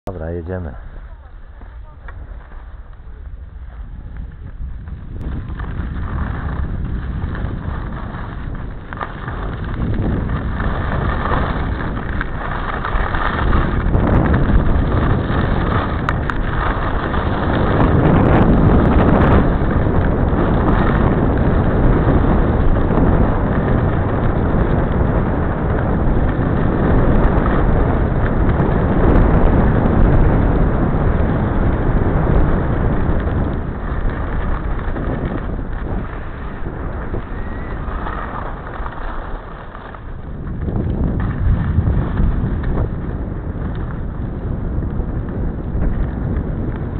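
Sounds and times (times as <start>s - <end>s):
wind rushing over microphone: 0.0s - 46.9s
skis sliding on snow: 0.1s - 46.9s.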